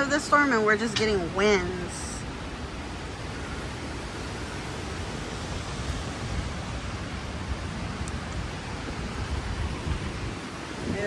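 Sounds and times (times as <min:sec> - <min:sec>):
storm wind rushing through trees: 0:00.0 - 0:11.0
wind buffeting microphone: 0:00.0 - 0:11.0.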